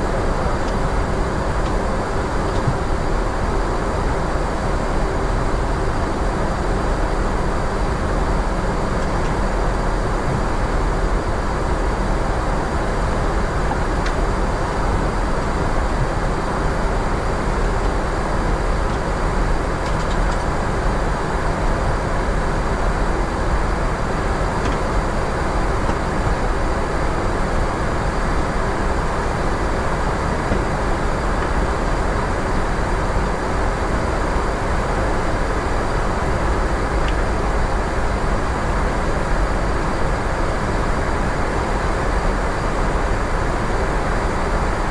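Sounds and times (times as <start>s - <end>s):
faint steady hum: 0.0s - 44.9s
rush of airflow and ventilation: 0.0s - 44.9s.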